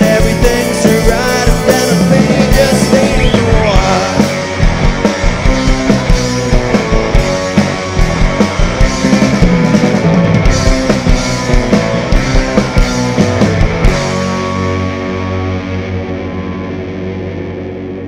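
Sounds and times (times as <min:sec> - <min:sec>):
drum kit steady beat: 0:00.0 - 0:14.9
guitars playing: 0:00.0 - 0:18.0.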